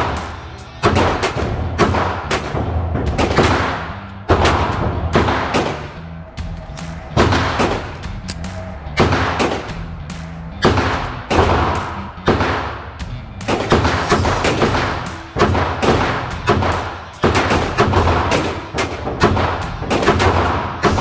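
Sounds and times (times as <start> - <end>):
pistol shots: 0.0 - 21.0.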